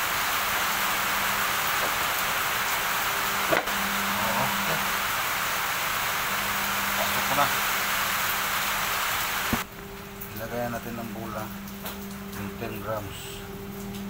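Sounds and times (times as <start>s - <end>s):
rain on a metal roof: 0.0s - 14.0s.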